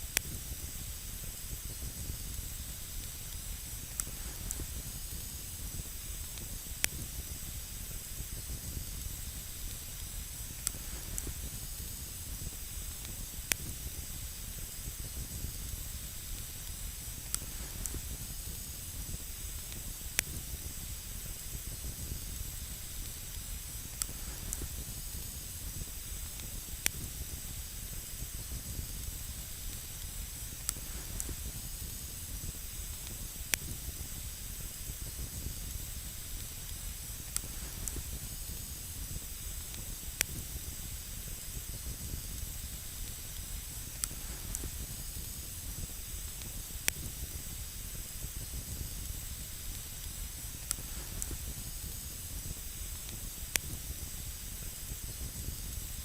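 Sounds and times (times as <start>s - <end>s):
campfire hissing: 0.0s - 56.0s.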